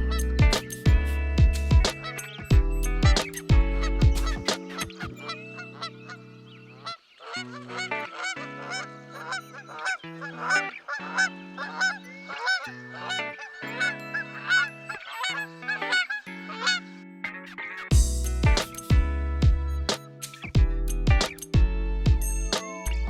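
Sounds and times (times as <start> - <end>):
background music with low chords: 0.0 - 23.0.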